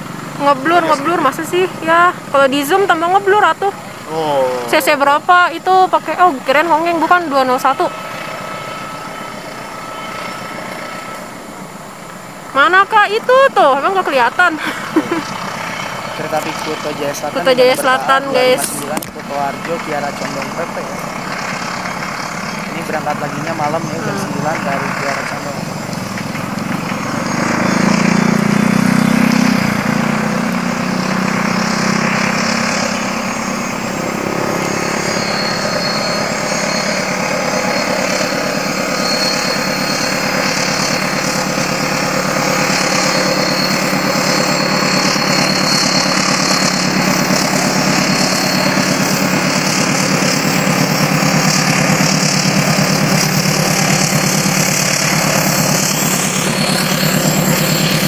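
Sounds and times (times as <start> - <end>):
diesel train passing: 0.0 - 58.0
high-pitched whine: 0.0 - 58.0.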